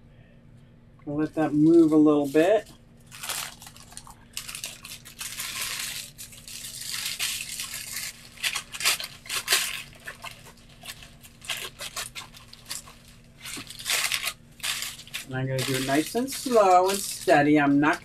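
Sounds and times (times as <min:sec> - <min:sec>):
plastic crinkling and rustling: 0:01.4 - 0:18.0.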